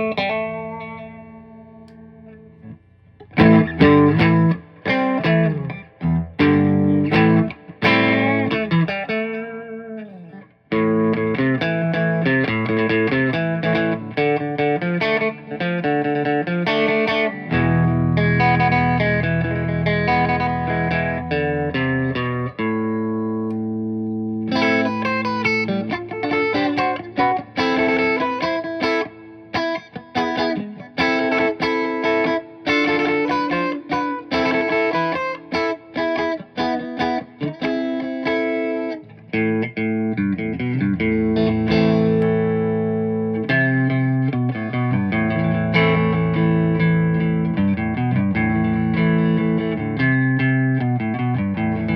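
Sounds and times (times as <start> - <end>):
overdriven electric guitar: 0.0 - 51.9.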